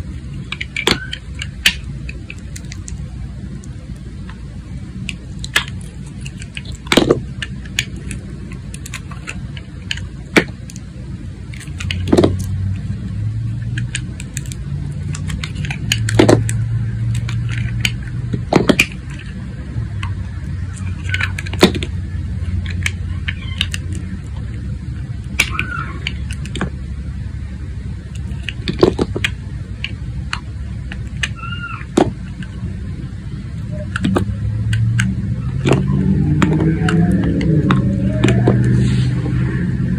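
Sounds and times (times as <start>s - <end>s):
low steady rumble: 0.0s - 39.9s.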